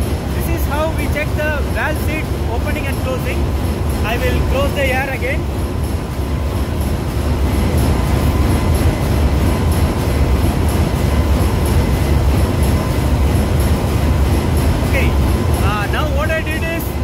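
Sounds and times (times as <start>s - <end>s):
engine room machinery rumble: 0.0s - 17.0s.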